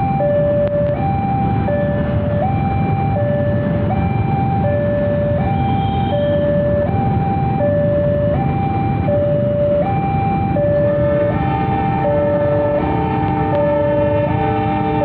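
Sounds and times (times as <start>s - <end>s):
rumble of vehicles: 0.0s - 15.0s.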